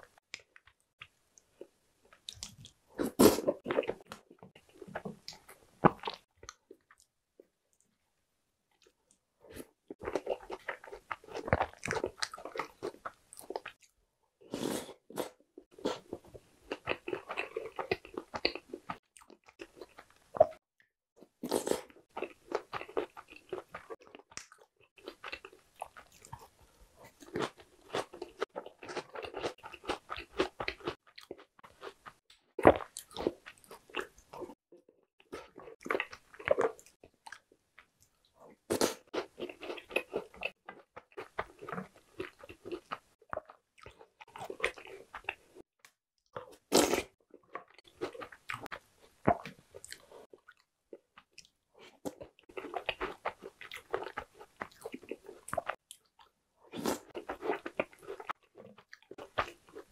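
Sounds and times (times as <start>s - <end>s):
person chewing with wet mouth sounds: 0.1s - 7.9s, 8.7s - 20.6s, 21.2s - 34.6s, 35.2s - 59.9s.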